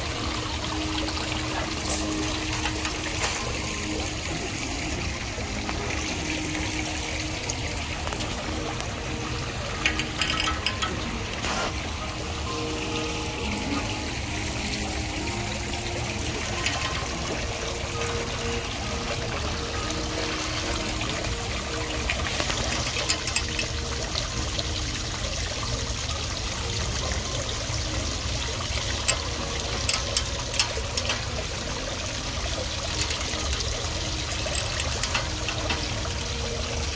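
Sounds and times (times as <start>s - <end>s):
water trickling into a pool: 0.0s - 36.9s.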